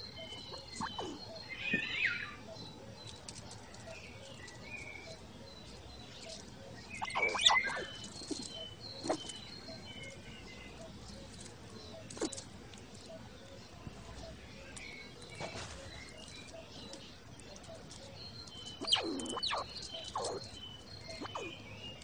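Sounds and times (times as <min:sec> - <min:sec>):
small birds chirping: 0:00.0 - 0:22.0
squirrel claws scratching on bark: 0:03.0 - 0:13.1, 0:13.9 - 0:21.5.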